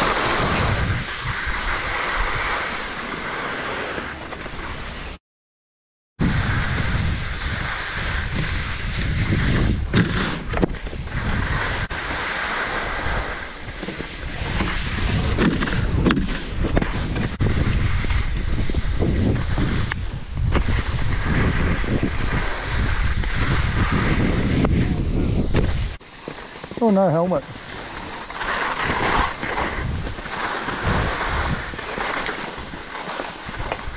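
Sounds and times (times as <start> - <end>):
wind buffeting microphone: 0.0 - 2.4, 6.2 - 12.0, 13.0 - 26.0, 27.5 - 33.9
skis sliding on snow: 0.0 - 5.2, 6.2 - 33.9.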